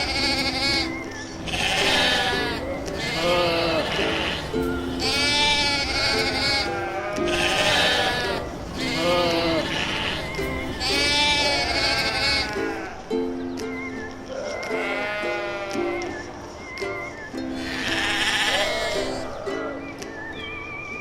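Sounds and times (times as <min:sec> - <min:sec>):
sheep or goat bleating: 0:00.0 - 0:13.0, 0:14.4 - 0:16.2, 0:17.6 - 0:19.8
light plucked background music: 0:00.0 - 0:21.0.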